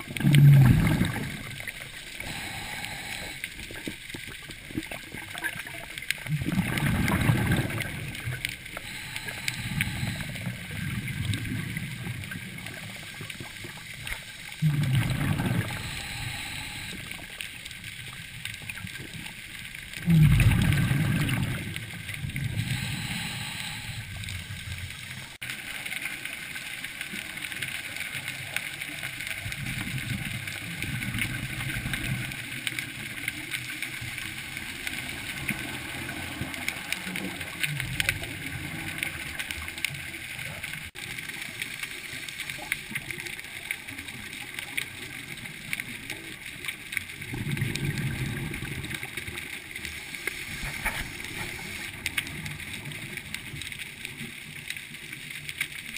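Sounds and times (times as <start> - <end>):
scuba exhaust bubbles rumbling: 0.0 - 55.9
underwater crackle and hiss: 0.0 - 55.9.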